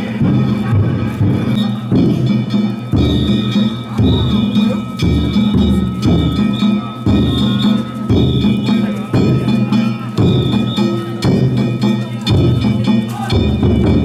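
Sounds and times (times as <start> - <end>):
hand gongs ringing: 0.0 - 14.0
large drum beating: 0.0 - 14.0.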